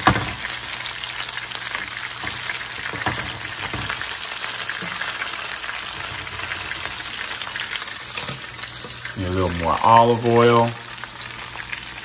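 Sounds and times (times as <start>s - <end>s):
nuggets sizzling in oil: 0.0s - 12.0s.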